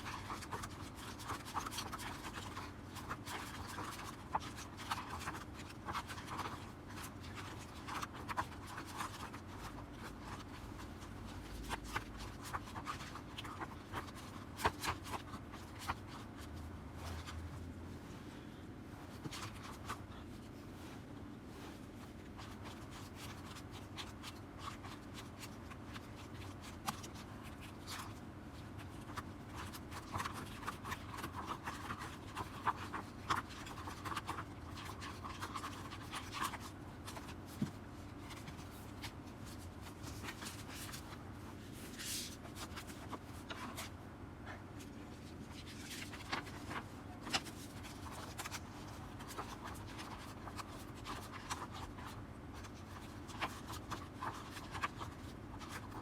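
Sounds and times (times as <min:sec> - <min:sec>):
paper rustling: 0:00.0 - 0:17.7, 0:19.1 - 0:44.0, 0:44.8 - 0:56.0.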